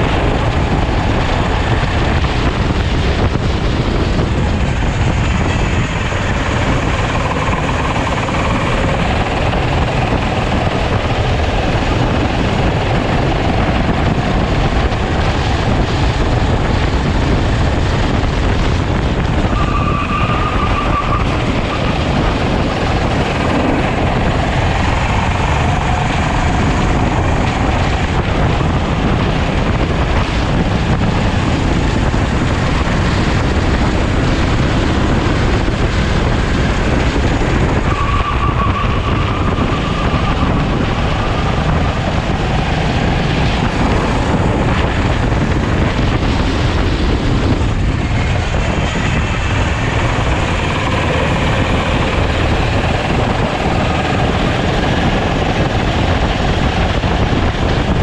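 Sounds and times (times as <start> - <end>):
kart engine racing: 0.0 - 58.0.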